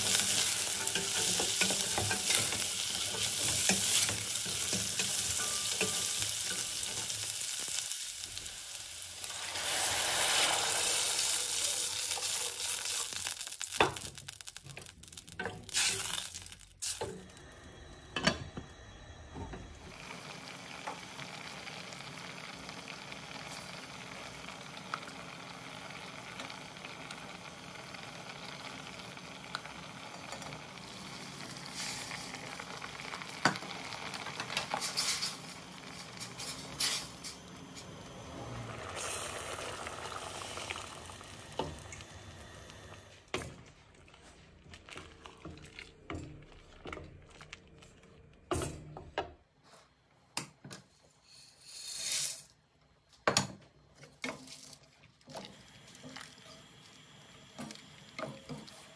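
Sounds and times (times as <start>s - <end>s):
broth bubbling in a pot: 0.0s - 49.4s, 55.2s - 58.9s.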